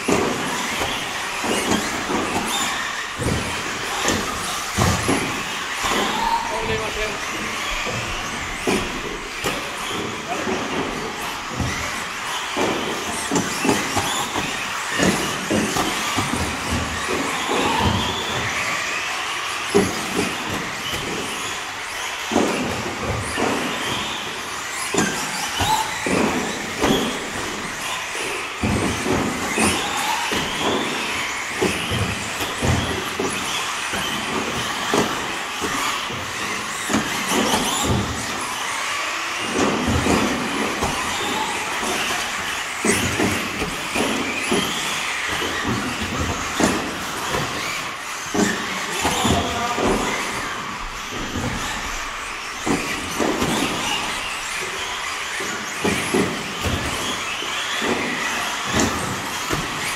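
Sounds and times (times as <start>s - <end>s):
electric motors whining: 0.0s - 59.9s
toy cars knocking and thumping: 0.0s - 59.9s.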